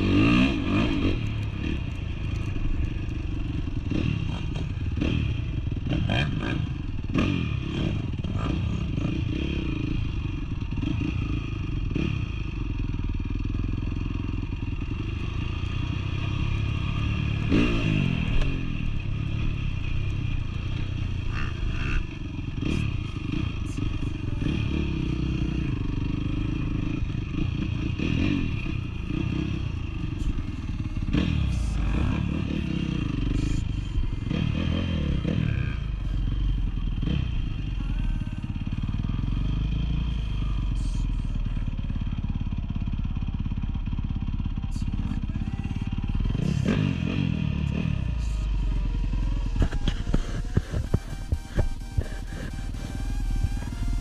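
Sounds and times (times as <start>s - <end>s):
dirt bike engine revving: 0.0s - 42.6s, 43.6s - 54.0s.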